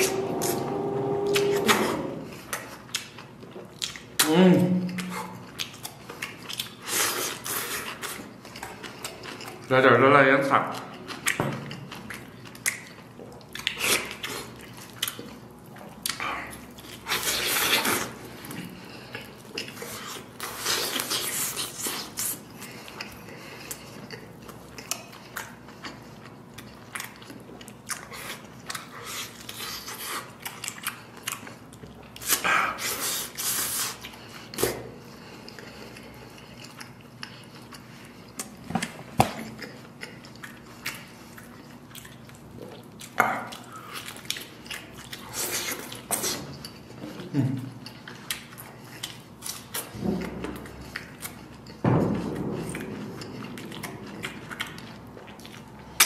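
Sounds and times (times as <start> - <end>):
person chewing and biting meat: 0.1 - 9.7, 10.8 - 56.0.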